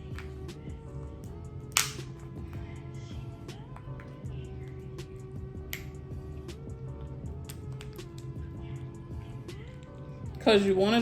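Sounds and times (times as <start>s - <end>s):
background music with low beat: 0.0s - 11.0s.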